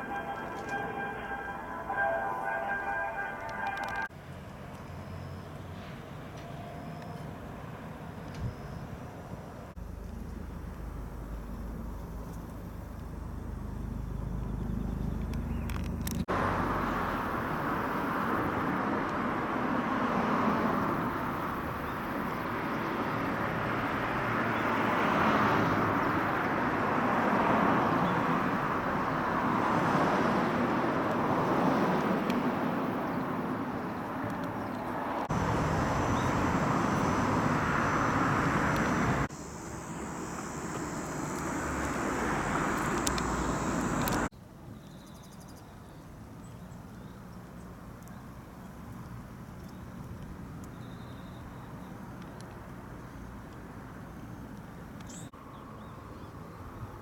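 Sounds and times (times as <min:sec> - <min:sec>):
distant road traffic: 0:00.0 - 0:57.0.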